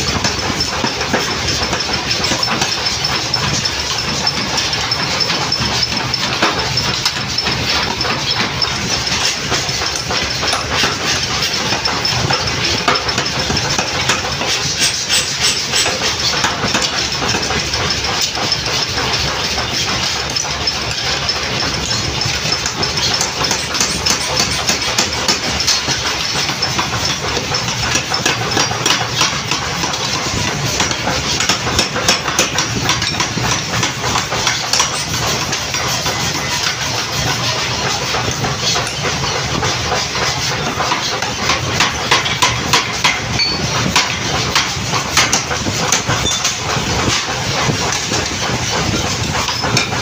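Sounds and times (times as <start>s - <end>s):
power hammer striking hot steel: 0.0s - 50.0s.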